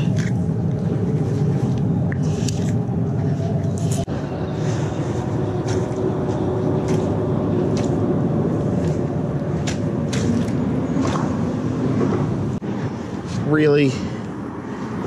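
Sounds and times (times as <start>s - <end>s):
steady rumbling background noise: 0.0s - 15.0s.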